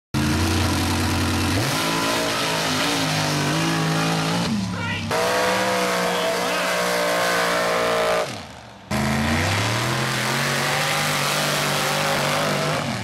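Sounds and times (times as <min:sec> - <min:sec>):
racing engine at full throttle: 0:00.2 - 0:13.0.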